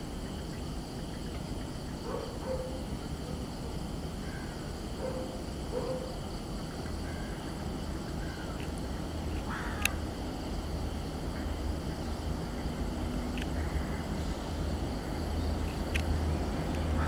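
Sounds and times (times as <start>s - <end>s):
distant diesel locomotive rumble: 0.0s - 17.0s.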